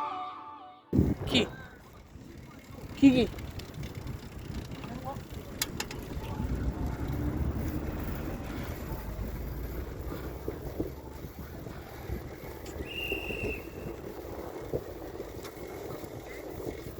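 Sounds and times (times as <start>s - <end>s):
wind buffeting microphone: 1.0s - 16.9s.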